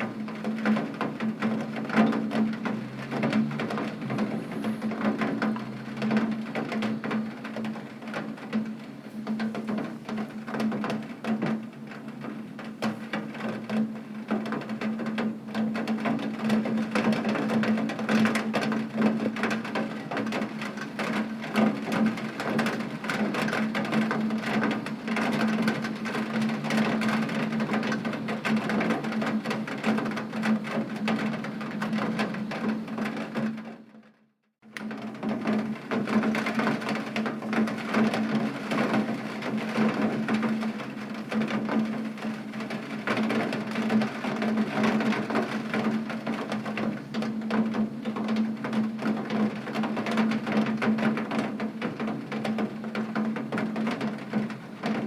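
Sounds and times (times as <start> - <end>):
heavy rain on window glass: 0.0 - 55.0.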